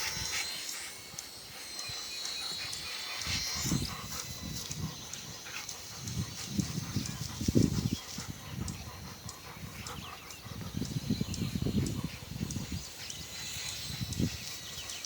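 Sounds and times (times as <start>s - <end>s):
dog panting: 0.0s - 13.3s
faint high whine: 0.0s - 15.0s.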